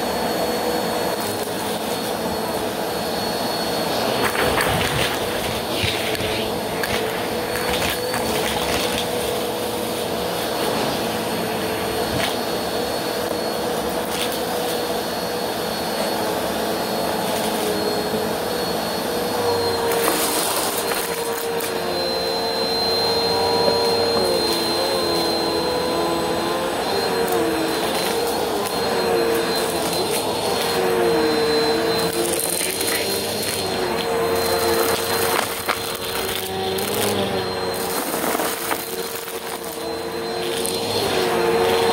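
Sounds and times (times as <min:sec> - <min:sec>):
vacuum cleaner running: 0:00.0 - 0:41.9
vacuum hissing: 0:00.0 - 0:41.9.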